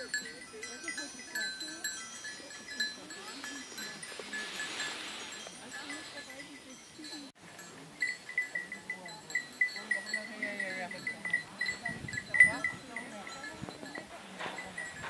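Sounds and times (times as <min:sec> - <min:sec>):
livestock bells clinking: 0:00.0 - 0:15.0.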